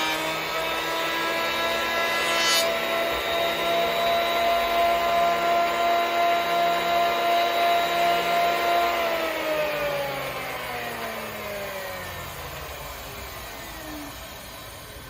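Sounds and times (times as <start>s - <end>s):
thickness planer whining: 0.0s - 15.0s.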